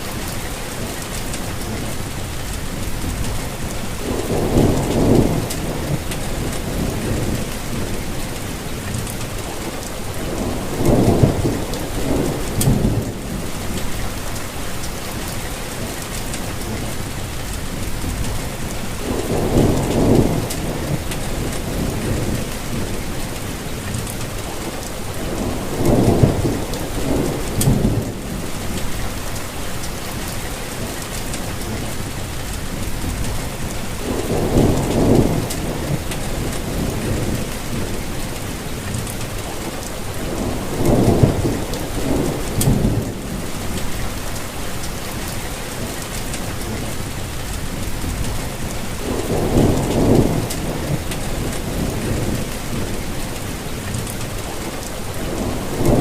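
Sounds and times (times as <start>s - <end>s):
thunder rumbling: 0.0s - 15.5s, 16.2s - 56.0s
steady rain: 0.0s - 56.0s.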